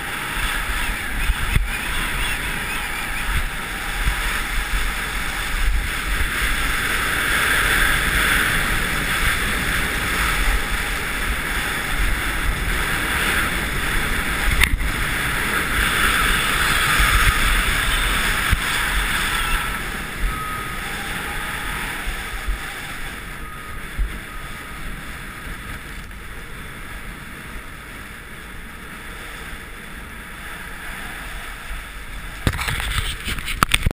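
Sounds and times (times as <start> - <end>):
skis scraping over snow: 0.0 - 33.9
wind buffeting microphone: 0.0 - 33.9.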